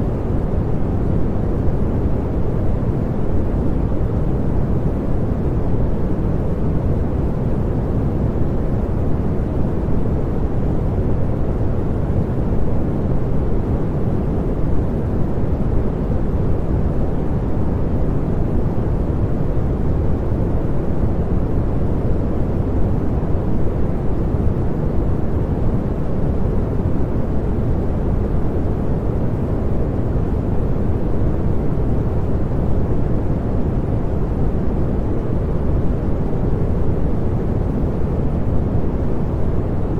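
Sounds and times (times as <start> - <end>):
steady pink noise: 0.0 - 39.9.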